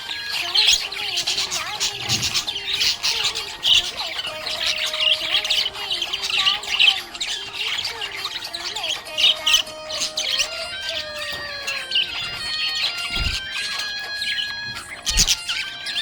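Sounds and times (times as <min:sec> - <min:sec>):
budgerigars chirping and chattering: 0:00.0 - 0:16.0.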